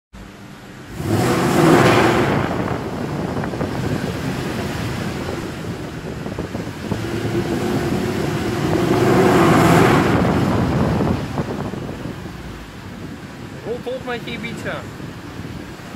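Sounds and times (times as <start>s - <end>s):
car engine revving: 0.2s - 15.9s.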